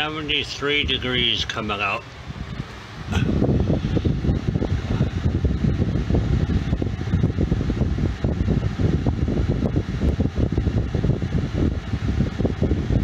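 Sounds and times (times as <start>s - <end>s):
air conditioner fan rushing: 0.0s - 13.0s.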